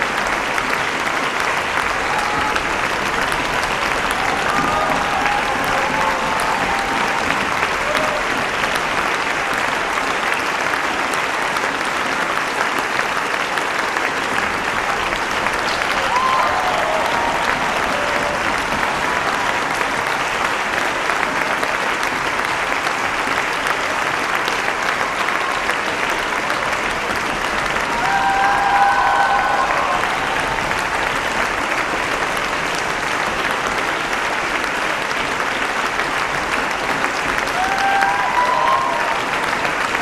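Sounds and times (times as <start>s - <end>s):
large audience applauding: 0.0s - 40.0s.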